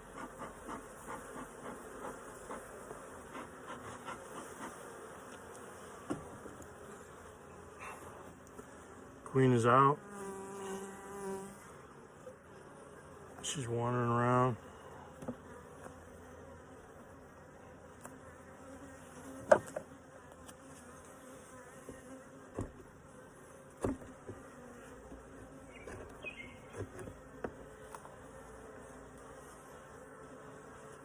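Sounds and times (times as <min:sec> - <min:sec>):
bees humming: 0:00.0 - 0:31.0.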